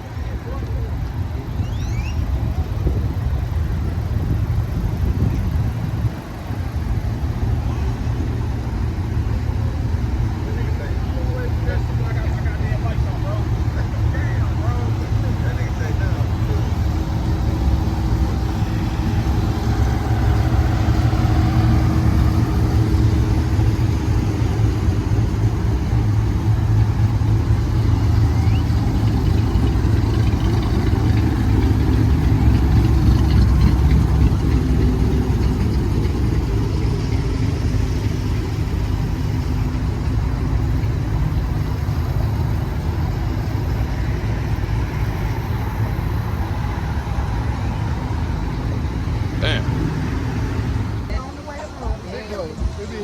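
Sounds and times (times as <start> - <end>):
car engine rumbling: 0.0 - 53.0.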